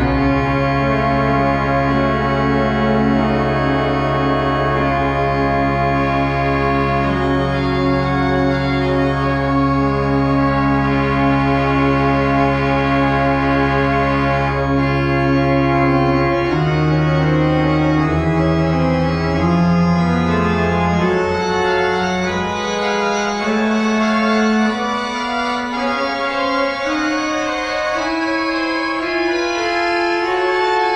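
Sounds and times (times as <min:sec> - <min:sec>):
organ bass notes: 0:00.0 - 0:30.9
organ chords: 0:00.0 - 0:30.9.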